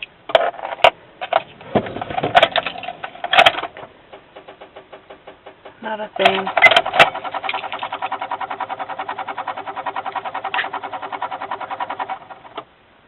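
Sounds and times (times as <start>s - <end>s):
starter solenoid clicking: 1.4s - 12.7s.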